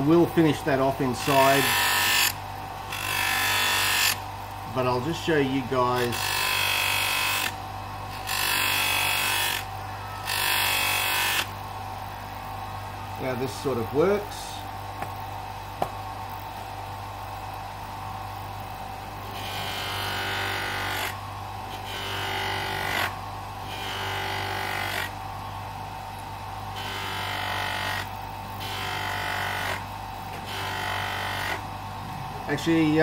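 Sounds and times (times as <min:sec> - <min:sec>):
bench grinder motor humming: 0:01.0 - 0:15.1, 0:17.3 - 0:25.3, 0:26.4 - 0:33.0.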